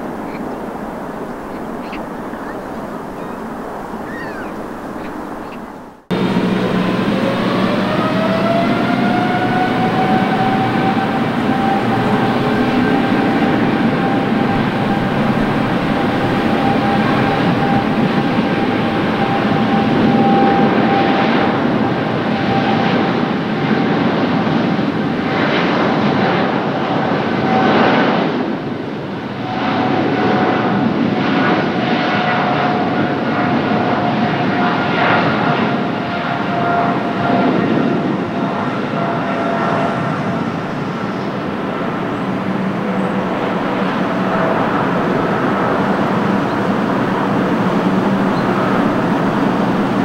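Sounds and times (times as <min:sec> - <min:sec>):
airplane landing noise: 0:00.0 - 0:50.0
jet engine whine: 0:00.0 - 0:50.0.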